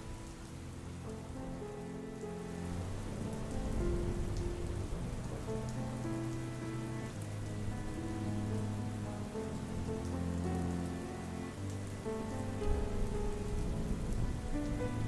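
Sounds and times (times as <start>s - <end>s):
slow ambient music: 0.0s - 15.0s
soft steady rain: 0.0s - 15.0s.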